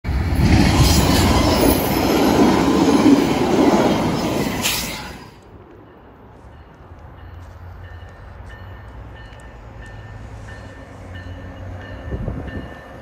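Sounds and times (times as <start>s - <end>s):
train wheels rushing on rails: 0.1s - 13.0s.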